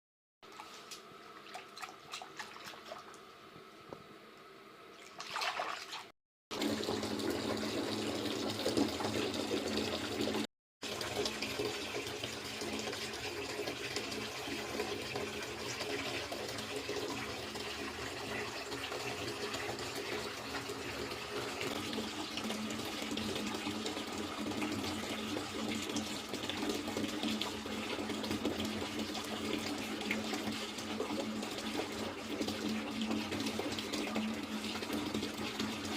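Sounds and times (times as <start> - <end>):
water running from tap: 5.0 - 35.9.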